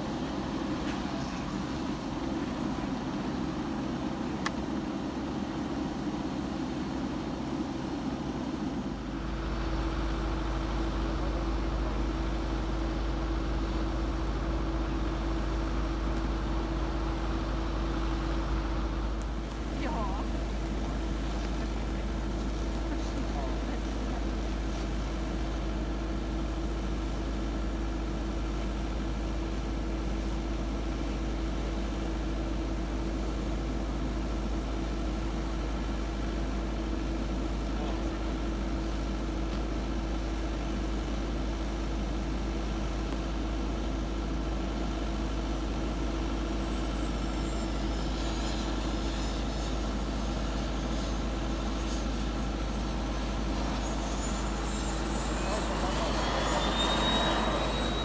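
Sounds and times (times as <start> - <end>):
faint high jet whine: 0.0 - 58.0
mechanical engine drone: 0.0 - 58.0.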